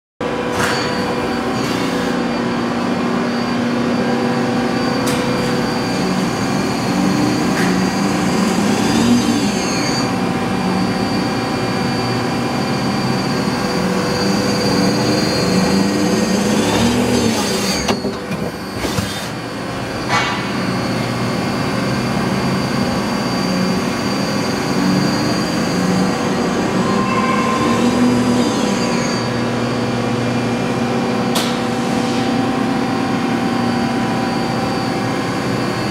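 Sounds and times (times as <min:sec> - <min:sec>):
lathe machine hum with whines: 0:00.2 - 0:35.9.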